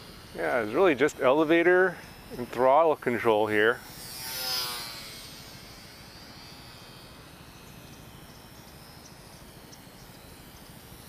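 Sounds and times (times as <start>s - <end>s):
distant model airplane motor whine: 0.0s - 11.0s
outdoor ambience: 0.0s - 11.0s.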